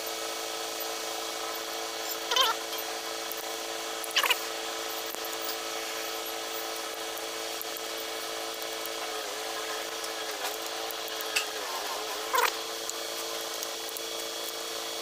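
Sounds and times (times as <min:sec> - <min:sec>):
power tool motor running: 0:00.0 - 0:15.0.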